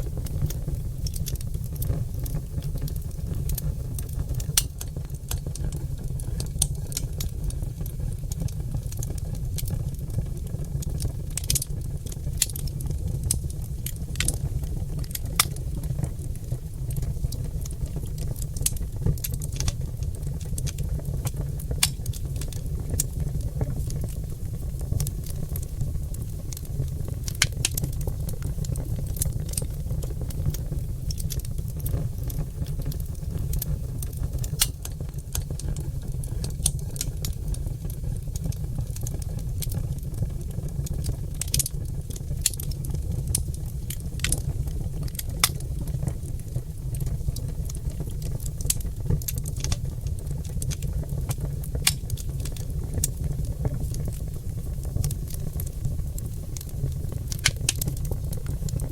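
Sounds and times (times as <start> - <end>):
logs crackling and popping: 0.0 - 58.9
low rumble of fire: 0.0 - 58.9.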